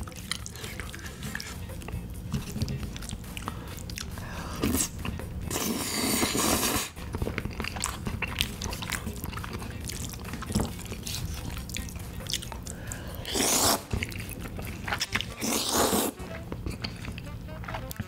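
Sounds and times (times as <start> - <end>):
noodle slurping: 0.0 - 18.0
wet chewing: 0.0 - 18.0.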